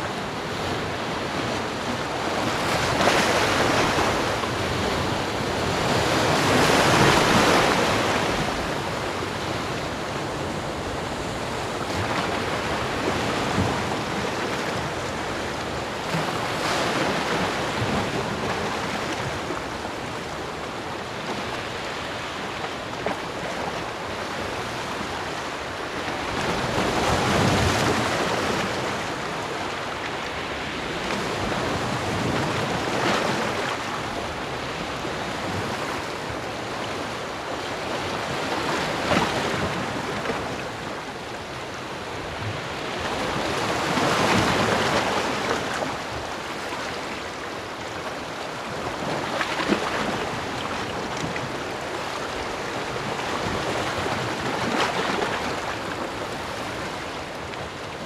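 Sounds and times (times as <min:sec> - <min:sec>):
ocean waves breaking: 0:00.0 - 0:20.3, 0:21.6 - 0:58.0.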